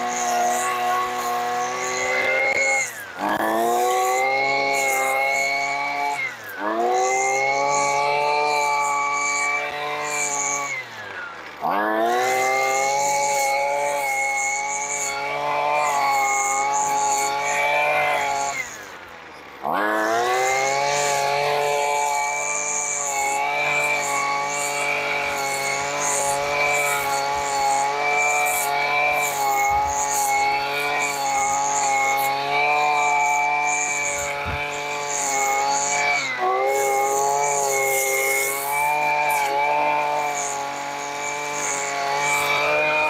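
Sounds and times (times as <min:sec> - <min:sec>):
string trimmer engine revving: 0:00.0 - 0:43.0.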